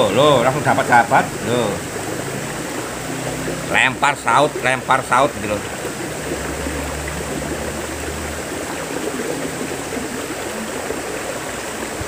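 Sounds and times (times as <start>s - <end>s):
low hum: 0.0s - 11.8s
river water flowing: 0.0s - 12.0s.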